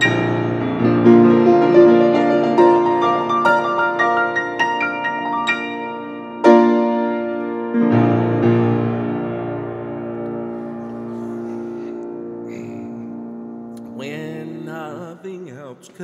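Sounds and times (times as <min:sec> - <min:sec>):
grand piano playing: 0:00.0 - 0:15.8.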